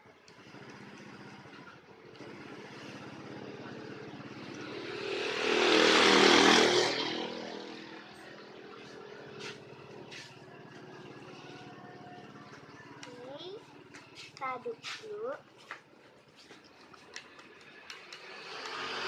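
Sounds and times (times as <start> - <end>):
engine passing by: 0.0 - 19.0.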